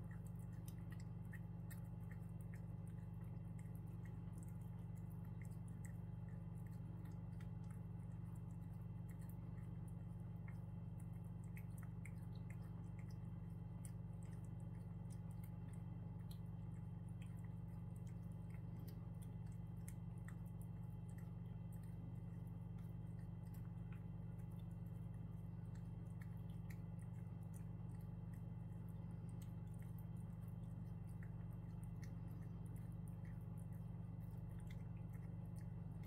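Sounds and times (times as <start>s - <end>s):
cat tongue licking clicks: 0.0s - 36.0s
steady low hum: 0.0s - 36.0s.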